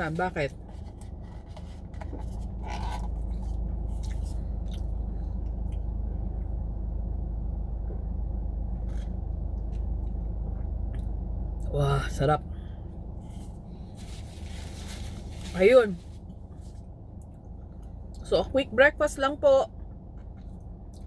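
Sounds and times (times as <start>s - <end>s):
low rumble inside a car: 0.0s - 21.0s.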